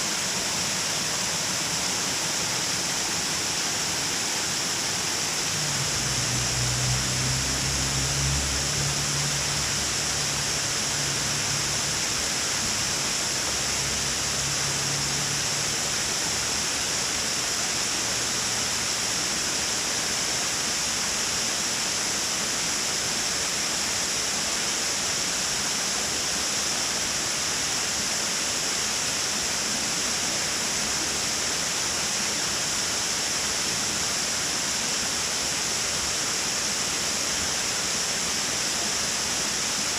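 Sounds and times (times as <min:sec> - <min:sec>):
water rushing over dam: 0:00.0 - 0:39.9.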